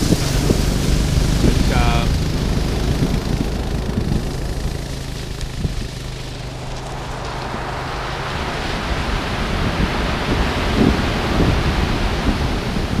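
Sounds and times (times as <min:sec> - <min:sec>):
waves washing up pebble beach: 0:00.0 - 0:13.0
wind buffeting microphone: 0:00.0 - 0:13.0.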